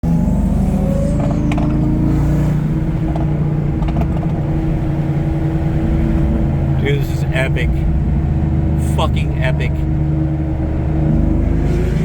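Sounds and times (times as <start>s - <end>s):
car engine heard from inside cabin: 0.0s - 12.0s.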